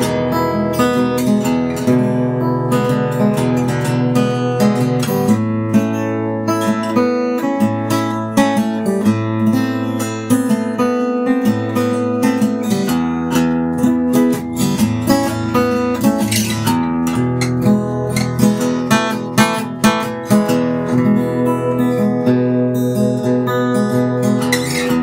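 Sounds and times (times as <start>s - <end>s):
acoustic guitar picking and strumming: 0.0s - 25.0s.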